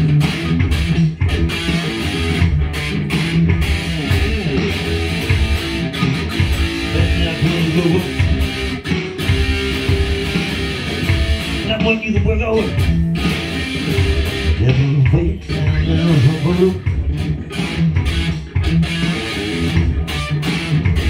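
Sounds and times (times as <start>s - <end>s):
electric guitar playing: 0.0s - 21.0s.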